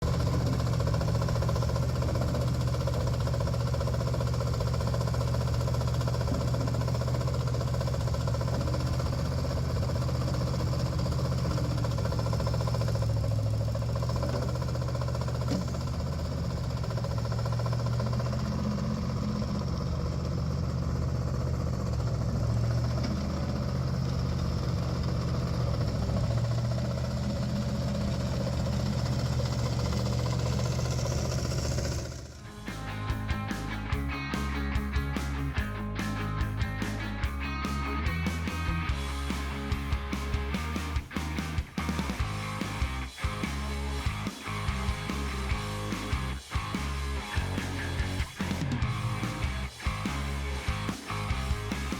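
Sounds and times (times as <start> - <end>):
skid steer engine running: 0.0 - 51.9.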